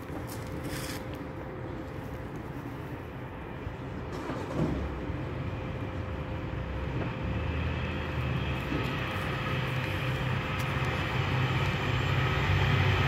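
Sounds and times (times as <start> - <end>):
low rumble of train: 0.0 - 13.0.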